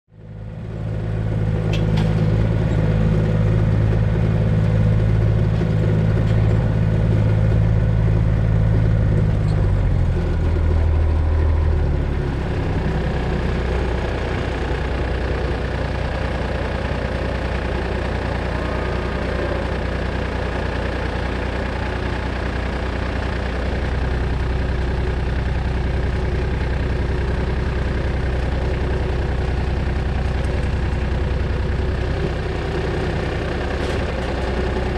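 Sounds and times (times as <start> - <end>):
vehicle engine idling: 0.1 - 34.9.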